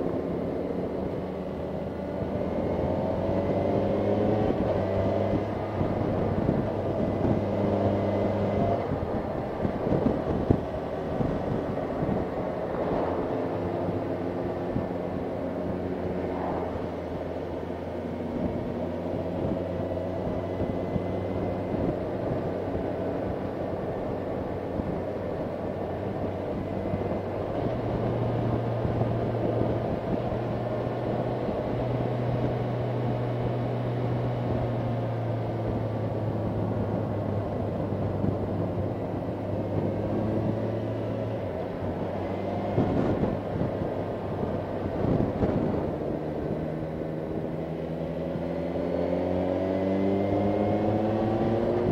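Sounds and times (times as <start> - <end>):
wind and road noise: 0.0 - 51.9.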